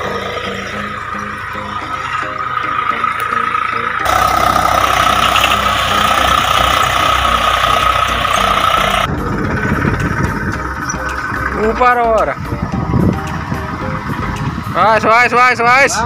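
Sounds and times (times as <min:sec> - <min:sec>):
tractor engine running: 0:00.0 - 0:15.4
background music: 0:00.0 - 0:16.0.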